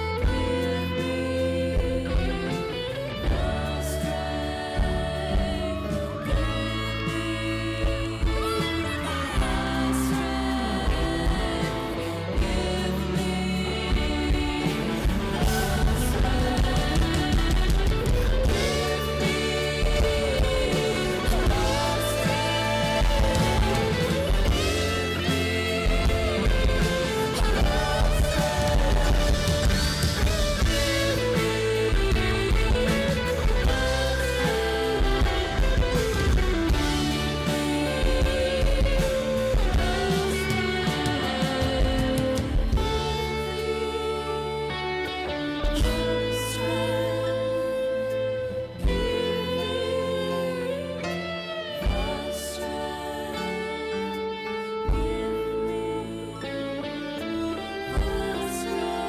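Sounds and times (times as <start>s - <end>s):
bass: 0.0s - 59.0s
drums: 0.0s - 59.0s
guitar: 0.0s - 59.0s
live rock band playing: 0.0s - 59.0s.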